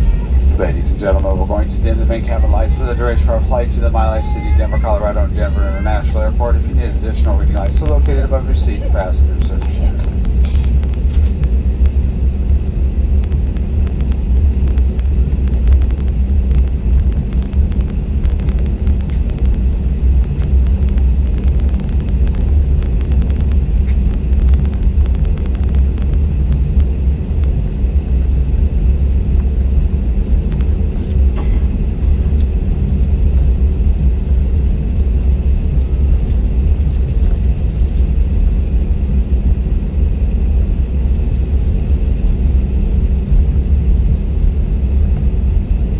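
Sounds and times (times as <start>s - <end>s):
jet engines humming in cabin: 0.0s - 45.9s.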